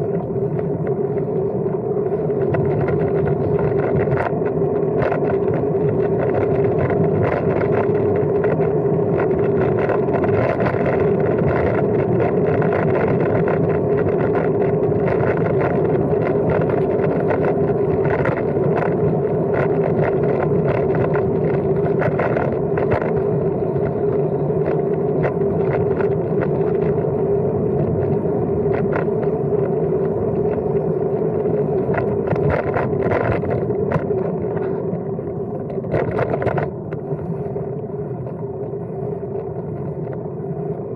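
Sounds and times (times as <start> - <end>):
bike tyres and air hum: 0.0 - 40.9.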